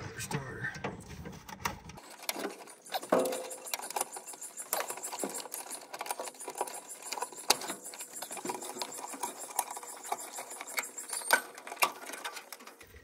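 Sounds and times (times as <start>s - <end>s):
metallic clicks and rattles: 1.9s - 13.0s.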